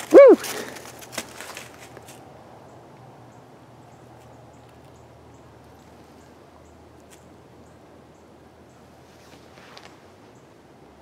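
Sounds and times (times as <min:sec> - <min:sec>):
faint outdoor background: 0:00.0 - 0:11.0.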